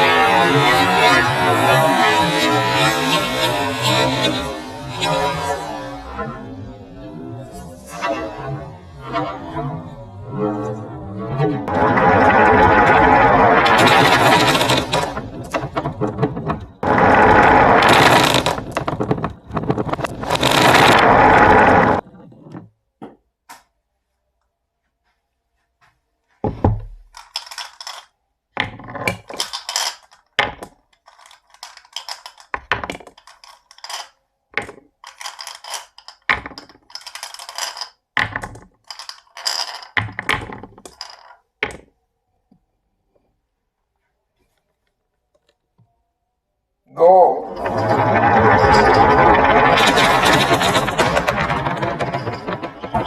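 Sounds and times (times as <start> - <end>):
marbles rattling down wooden run: 0.0 - 22.0, 26.5 - 41.9, 47.0 - 53.0.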